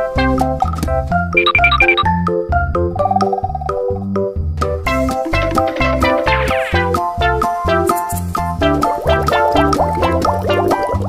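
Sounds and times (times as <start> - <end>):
upbeat music with bubbly notes: 0.0 - 11.0.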